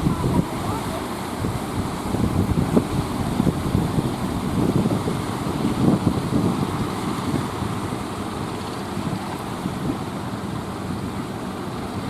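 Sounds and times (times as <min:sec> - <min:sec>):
low rumble of ship: 0:00.0 - 0:12.0
wind buffeting microphone: 0:00.0 - 0:12.0.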